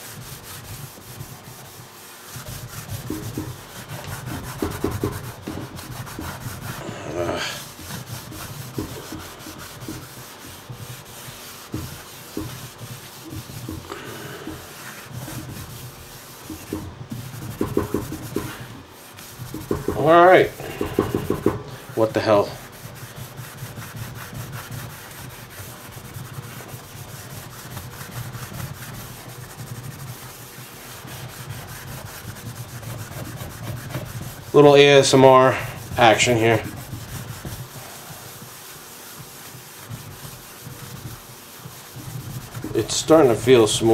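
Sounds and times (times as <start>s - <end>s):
scouring pad scrubbing a pan: 0.0s - 43.9s.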